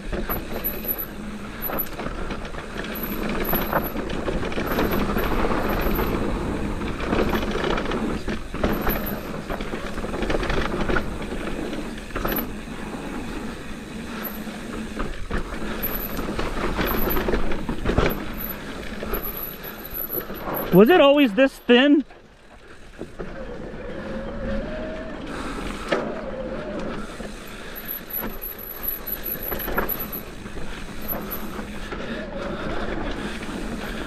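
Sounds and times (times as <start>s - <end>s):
bike rattling over bumps: 0.0s - 21.3s, 22.1s - 34.0s
bike tyres on dirt: 0.0s - 34.0s.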